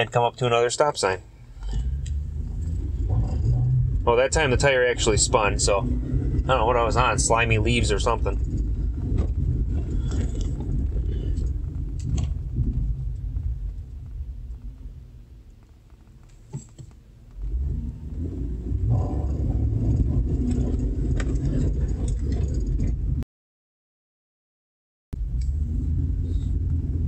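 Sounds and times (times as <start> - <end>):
road and drivetrain rumble: 0.0 - 23.2, 25.2 - 27.0.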